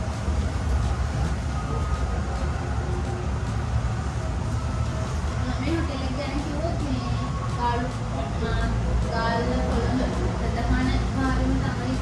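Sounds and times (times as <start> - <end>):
moving vehicle rumble and hiss: 0.0 - 12.0.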